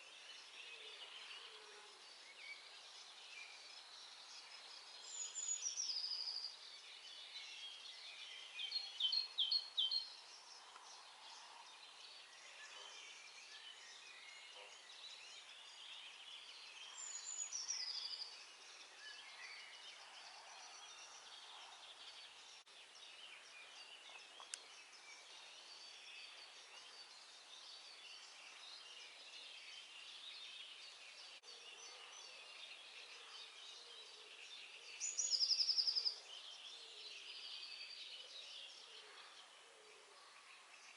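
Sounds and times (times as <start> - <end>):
close bird singing: 0.0 - 40.9
distant songbirds chirping: 0.0 - 40.9.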